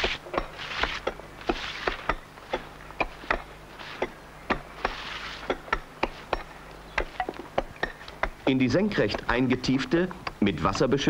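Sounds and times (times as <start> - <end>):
iron tools striking stone: 0.0 - 9.9.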